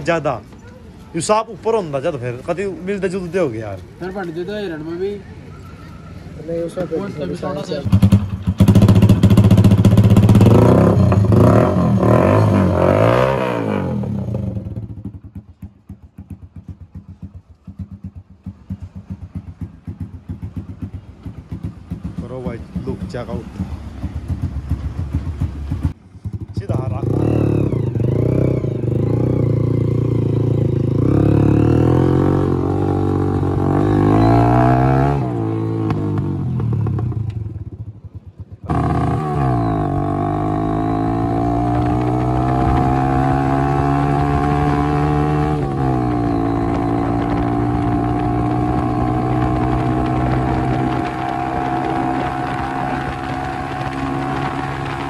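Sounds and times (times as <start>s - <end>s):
motorcycle engine revving: 6.8s - 55.0s.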